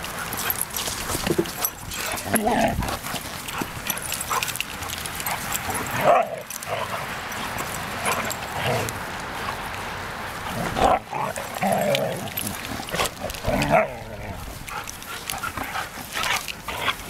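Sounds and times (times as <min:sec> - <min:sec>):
dogs play-fighting and vocalizing: 0:00.0 - 0:17.0.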